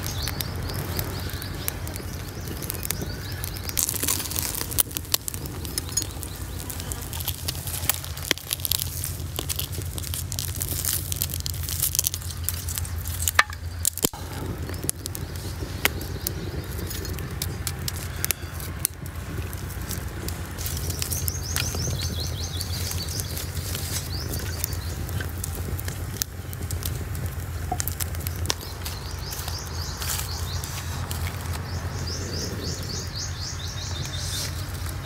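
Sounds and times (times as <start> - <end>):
hands rustling dry twigs: 0.0 - 35.0
steady low hum: 0.0 - 35.0
twig fire crackling: 0.0 - 35.0.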